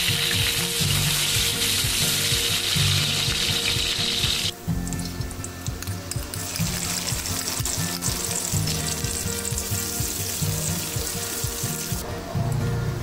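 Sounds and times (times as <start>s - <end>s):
garlic and onion sizzling in oil: 0.0s - 12.0s.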